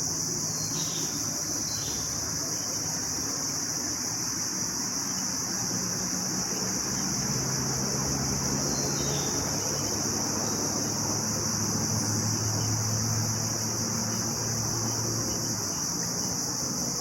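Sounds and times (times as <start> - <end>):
crickets chirping drone: 0.0 - 17.0.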